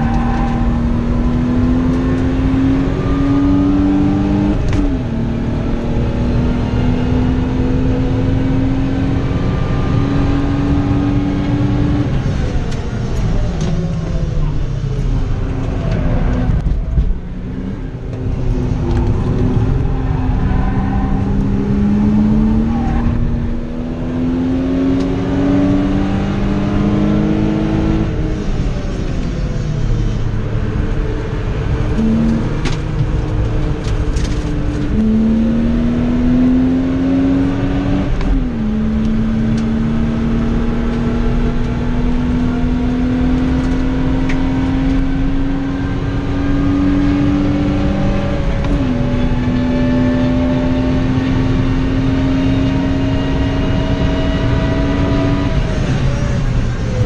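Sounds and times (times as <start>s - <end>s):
car engine accelerating hard: 0.0s - 57.0s
road and tyre rumble: 0.0s - 57.0s.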